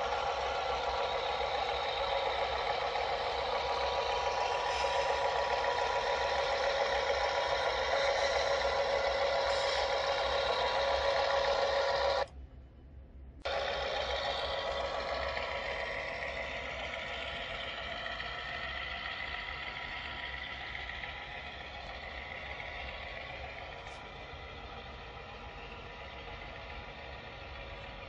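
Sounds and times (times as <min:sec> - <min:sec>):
model train diesel engine sound: 0:00.0 - 0:12.4, 0:13.3 - 0:28.0.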